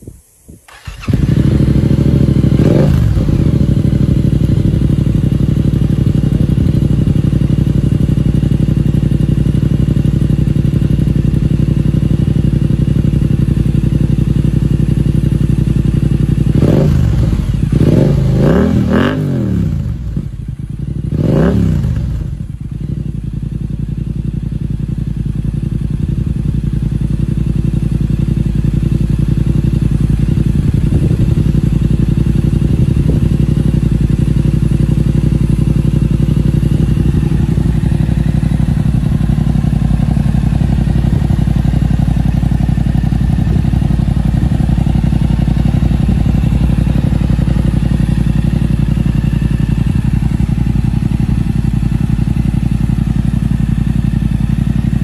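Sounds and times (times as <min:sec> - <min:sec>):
motorcycle engine idling: 0:00.6 - 0:55.0
motorcycle throttle blips: 0:00.7 - 0:24.5, 0:25.6 - 0:55.0.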